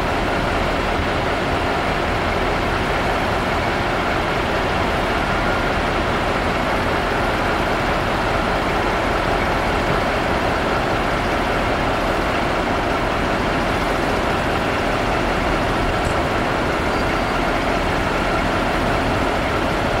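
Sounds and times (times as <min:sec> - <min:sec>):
diesel locomotive engine running: 0:00.0 - 0:20.0.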